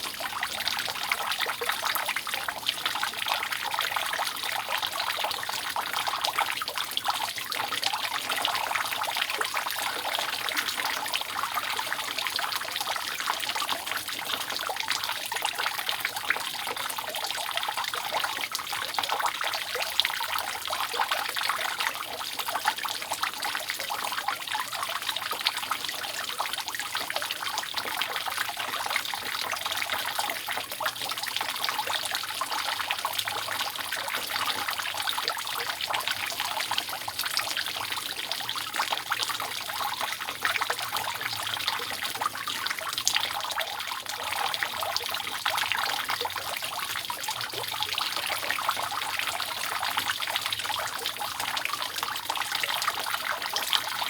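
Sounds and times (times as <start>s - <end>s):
rainwater dripping off a roof: 0.0s - 54.0s.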